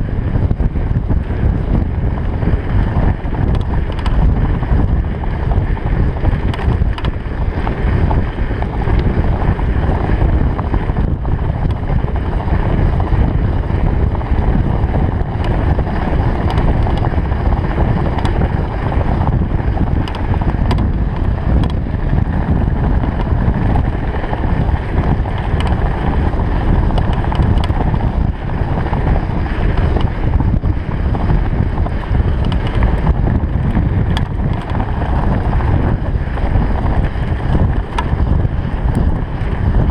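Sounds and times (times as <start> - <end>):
tyres rumbling on road: 0.0 - 39.9
wind buffeting microphone: 0.0 - 39.9
small clicks and rattles: 1.0 - 39.9.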